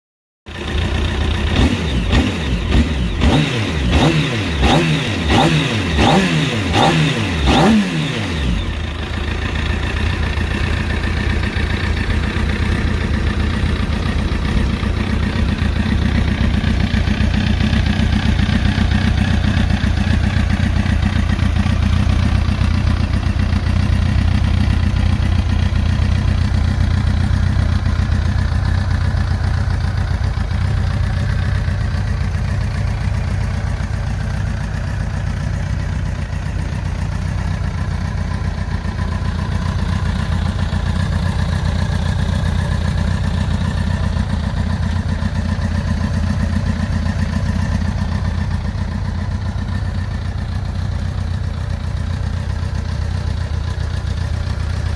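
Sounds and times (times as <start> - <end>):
motorcycle engine revving and idling: 0.5 - 54.9.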